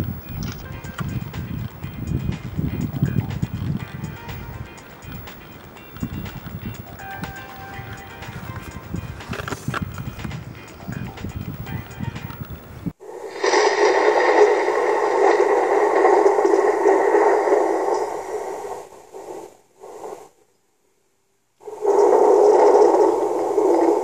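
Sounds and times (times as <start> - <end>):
loud static-like hiss: 0.0 - 24.0.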